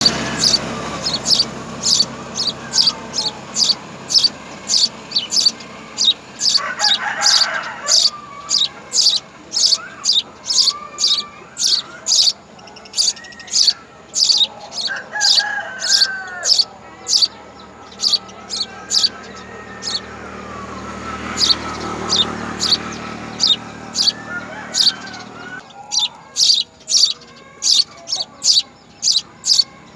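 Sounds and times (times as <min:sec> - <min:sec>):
longer lower bird calls: 0:00.0 - 0:29.9
sparrow chirping: 0:00.0 - 0:29.9.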